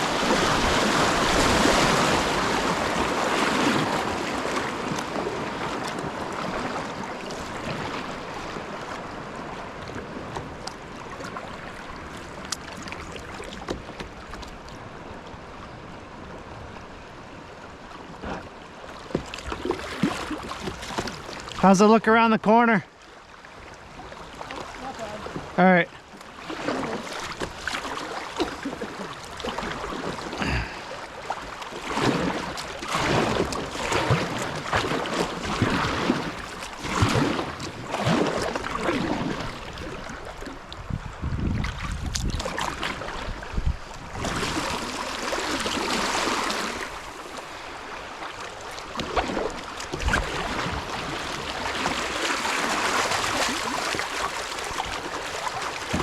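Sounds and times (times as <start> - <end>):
paddle strokes splashing: 0.0 - 56.0
rushing river water: 0.0 - 56.0.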